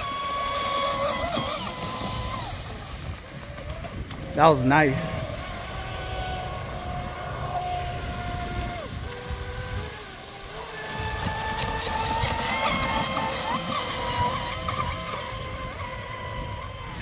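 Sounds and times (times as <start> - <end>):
electric motor whining: 0.0 - 4.3, 5.1 - 17.0.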